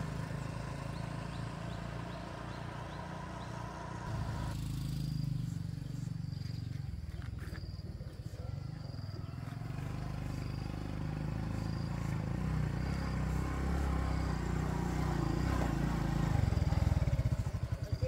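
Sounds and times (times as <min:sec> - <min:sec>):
motorbike engine approaching: 0:00.0 - 0:18.0
faint insect chirps: 0:00.1 - 0:18.0.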